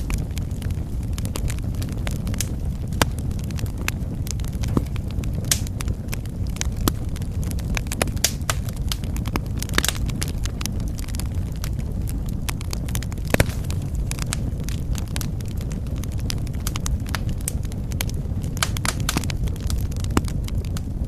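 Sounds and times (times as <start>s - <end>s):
burning wood popping: 0.0s - 21.0s
wood fire crackling: 0.0s - 21.0s.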